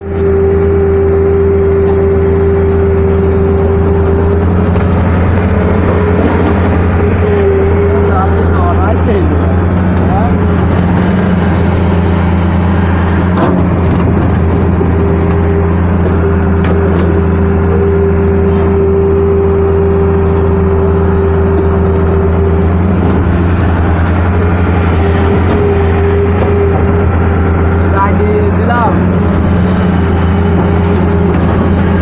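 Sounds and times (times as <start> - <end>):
excavator diesel engine running: 0.0 - 32.0
steady whine: 0.0 - 32.0.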